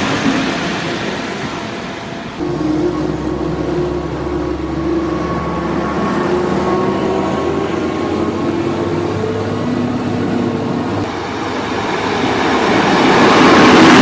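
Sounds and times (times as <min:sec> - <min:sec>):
approaching train rushing: 0:00.0 - 0:14.0
railcar whining over rumble: 0:00.0 - 0:14.0.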